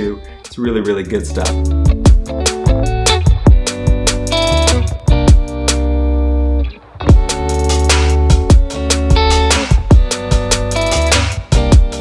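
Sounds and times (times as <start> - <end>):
guitar music with drum beat: 0.0 - 12.0.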